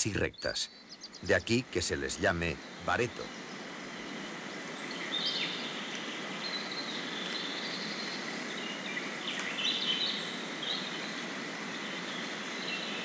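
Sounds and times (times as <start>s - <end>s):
bird calls: 0.0s - 11.2s
steady hiss: 0.0s - 13.0s.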